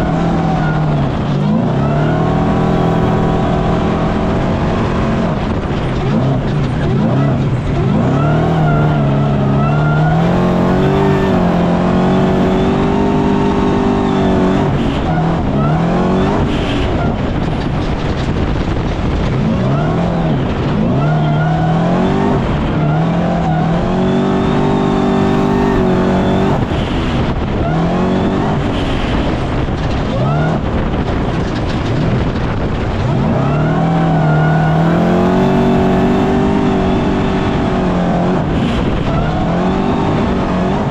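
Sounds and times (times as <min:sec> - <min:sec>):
race vehicle engine revving: 0:00.0 - 0:40.9.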